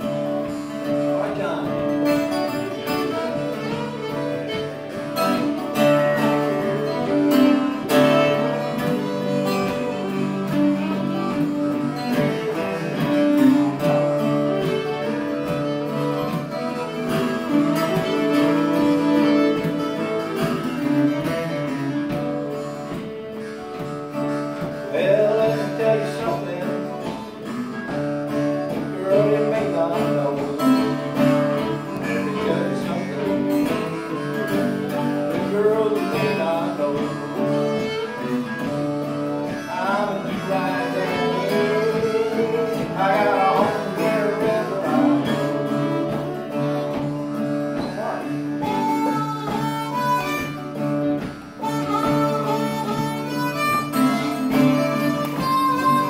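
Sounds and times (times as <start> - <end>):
acoustic guitar: 0.0 - 56.0
fiddle: 0.0 - 56.0
harmonica: 0.0 - 56.0.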